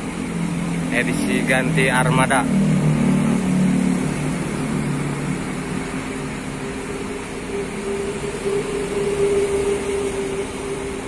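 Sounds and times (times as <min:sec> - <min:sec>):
bus engine idling: 0:00.0 - 0:02.5, 0:04.0 - 0:11.0.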